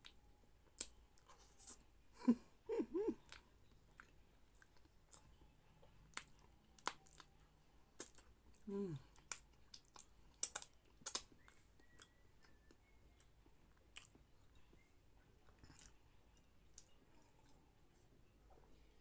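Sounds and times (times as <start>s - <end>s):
person chewing: 0.0s - 1.8s, 3.1s - 17.6s.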